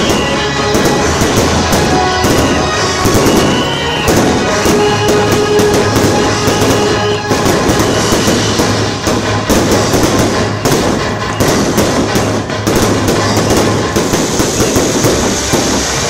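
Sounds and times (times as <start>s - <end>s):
firework crackle: 0.0s - 16.0s
firework shells bursting: 0.0s - 16.0s.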